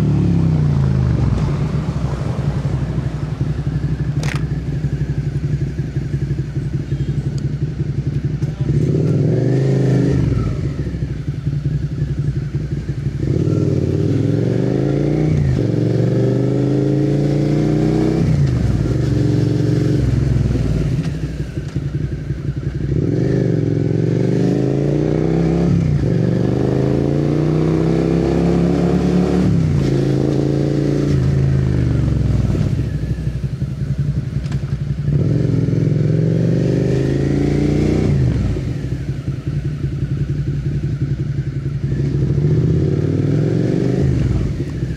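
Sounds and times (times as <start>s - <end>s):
motorcycle accelerating hard: 0.0s - 44.9s.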